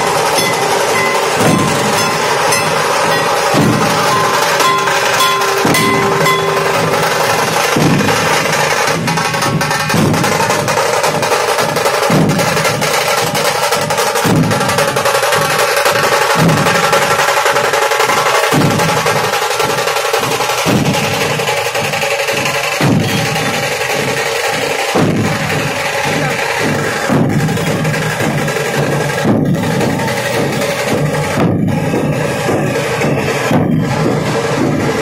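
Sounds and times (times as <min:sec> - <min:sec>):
large drums beating heavily: 0:00.0 - 0:35.0
small drums rattling fast: 0:00.0 - 0:35.0.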